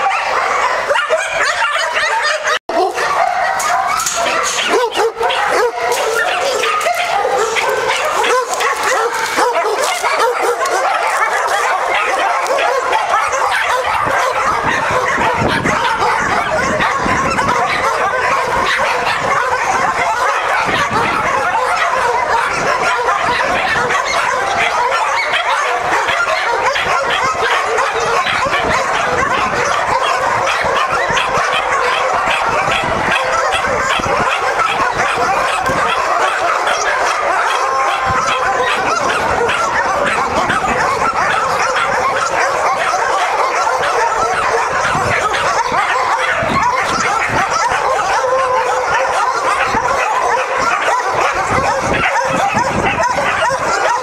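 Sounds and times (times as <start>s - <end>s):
dogs barking and yelping: 0.0s - 54.0s.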